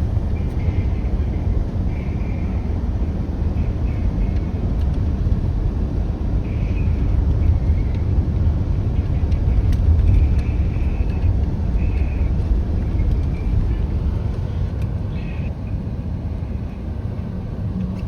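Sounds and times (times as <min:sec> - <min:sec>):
wind buffeting microphone: 0:00.0 - 0:15.5.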